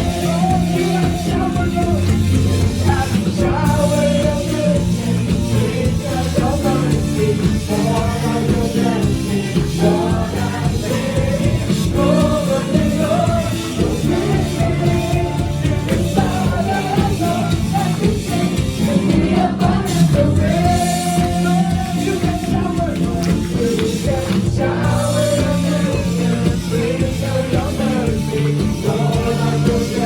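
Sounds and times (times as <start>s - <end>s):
steady drum beat: 0.0s - 30.0s
worship band playing gospel pop: 0.0s - 30.0s.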